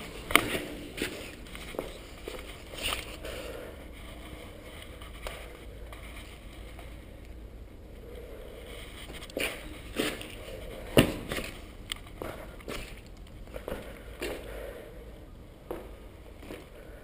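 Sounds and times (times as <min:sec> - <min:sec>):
footsteps on gritty concrete: 0:00.0 - 0:07.1, 0:08.7 - 0:14.6, 0:15.6 - 0:17.0.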